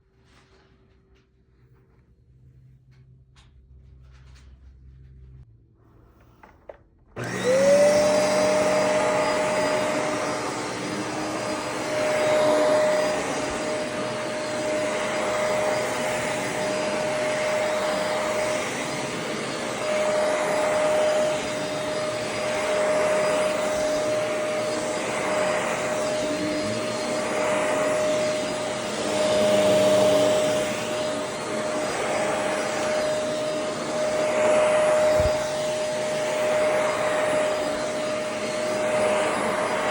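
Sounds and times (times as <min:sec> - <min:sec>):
vacuum cleaner motor whining: 0:06.2 - 0:39.9.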